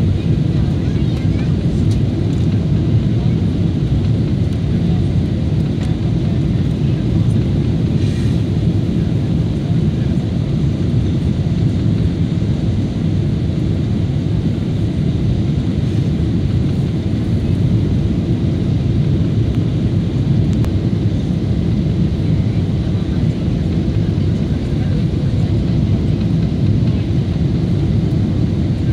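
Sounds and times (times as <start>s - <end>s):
airplane cabin rumble: 0.0s - 28.9s.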